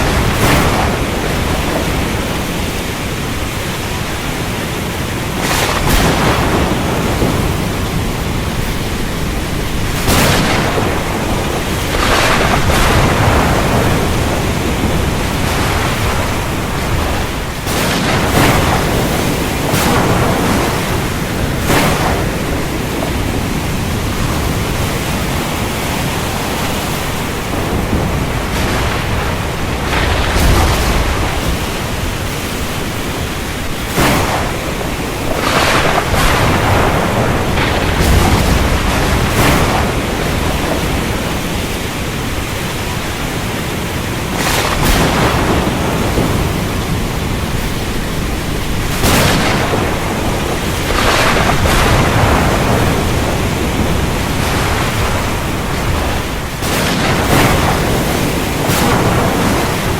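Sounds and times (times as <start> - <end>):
heavy rain: 0.0 - 59.9
thunder cracks: 0.0 - 59.9.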